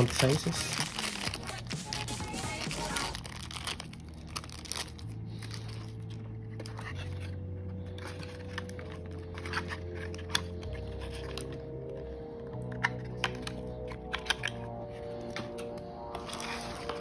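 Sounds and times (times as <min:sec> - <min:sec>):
packaging clicks and rustles: 0:00.0 - 0:17.0
soft background music: 0:00.0 - 0:17.0.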